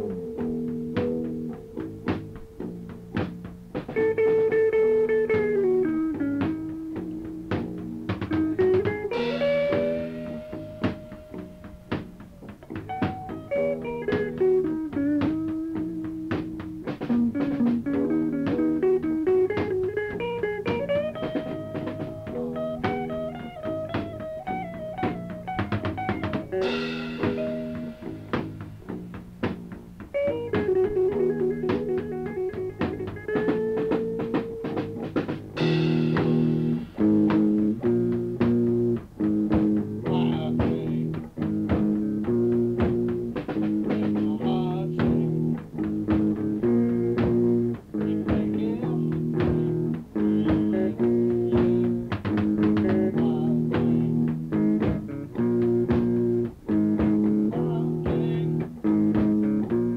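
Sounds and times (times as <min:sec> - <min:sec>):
rock band playing: 0:00.0 - 0:59.9
wavering guitar note: 0:00.0 - 0:59.9.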